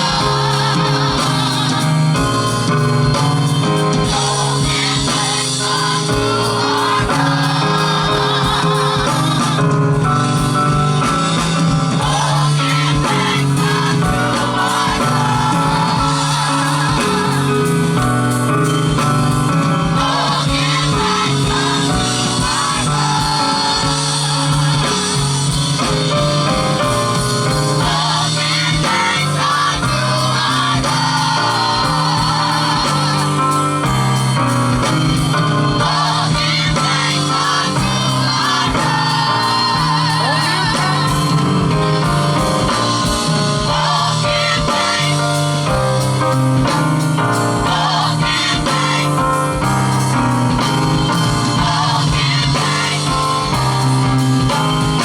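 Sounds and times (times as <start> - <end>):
band with bass guitar and drums: 0.0 - 55.0
voices singing gospel: 0.0 - 55.0.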